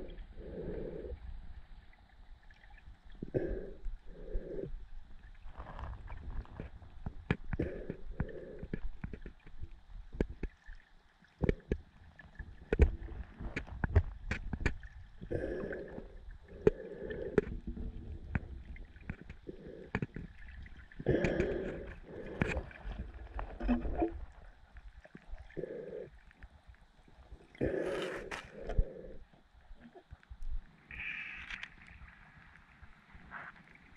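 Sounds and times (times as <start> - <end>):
muffled underwater water sloshing: 0.0 - 33.9.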